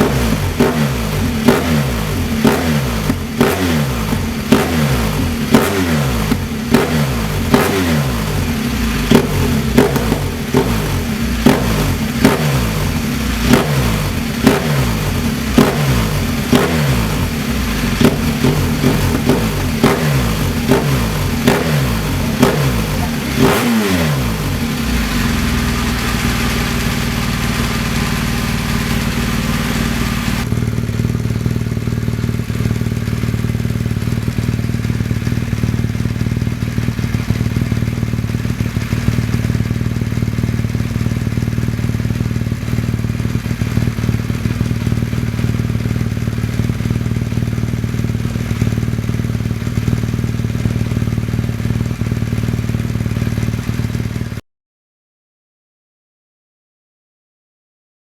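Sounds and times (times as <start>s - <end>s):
motorcycle engine idling: 0.0s - 54.4s
motorcycle throttle blips: 0.0s - 54.4s.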